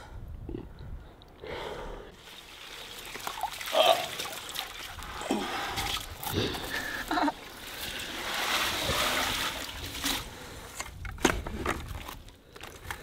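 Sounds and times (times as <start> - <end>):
water splashing and sloshing: 2.2 - 13.0.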